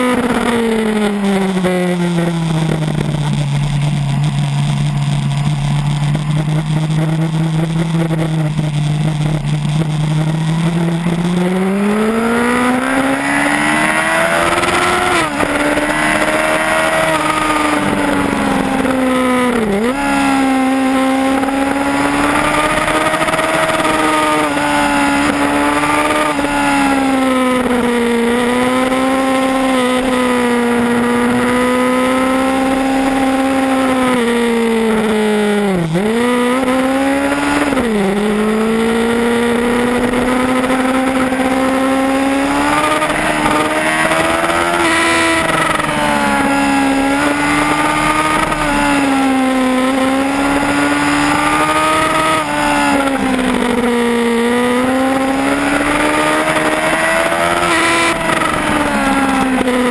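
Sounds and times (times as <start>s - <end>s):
motorcycle engine pulling hard: 0.0s - 59.9s.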